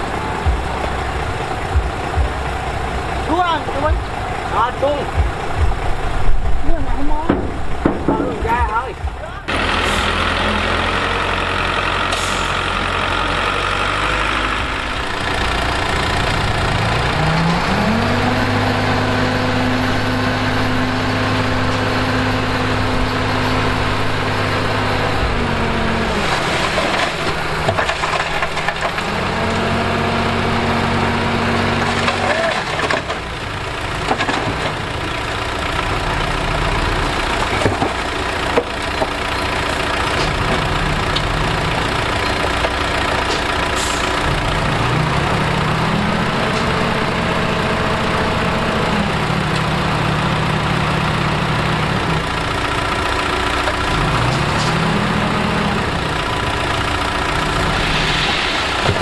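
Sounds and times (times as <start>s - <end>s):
diesel engine running and revving: 0.0s - 59.0s.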